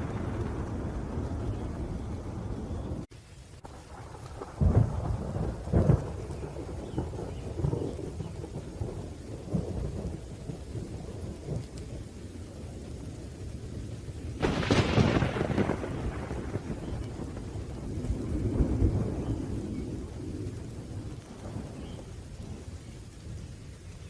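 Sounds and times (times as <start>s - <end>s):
sharp thunderclap: 0.0s - 11.9s, 13.6s - 22.7s
low rumbling thunder: 0.0s - 24.0s
steady rain: 0.0s - 24.0s.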